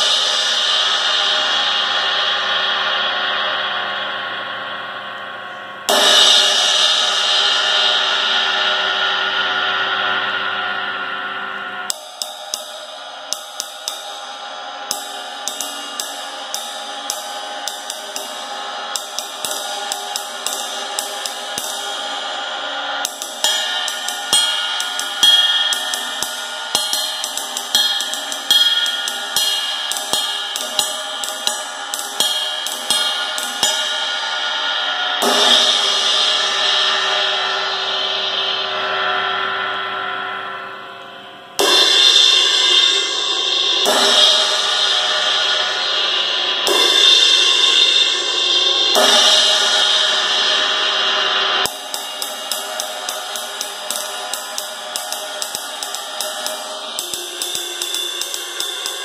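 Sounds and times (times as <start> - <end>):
crash cymbal played with drumstick: 0.0 - 59.0.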